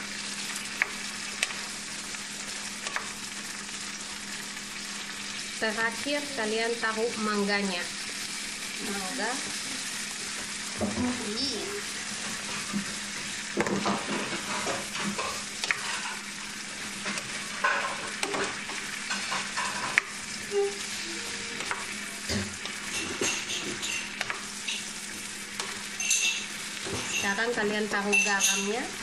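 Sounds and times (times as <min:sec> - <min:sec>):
food sizzling in frying pan: 0:00.0 - 0:29.0.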